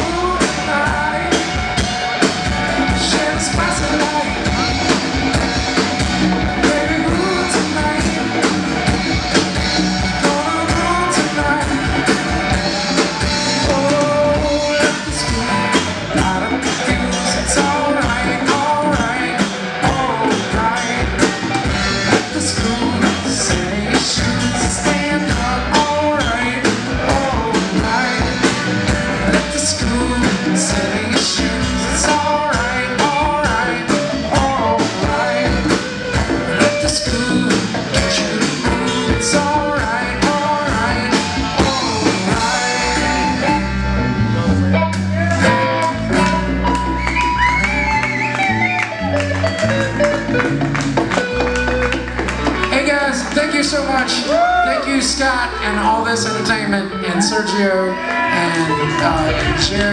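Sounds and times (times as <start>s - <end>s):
person singing: 0.0s - 47.2s, 52.6s - 59.9s
live rock band playing: 0.0s - 59.9s.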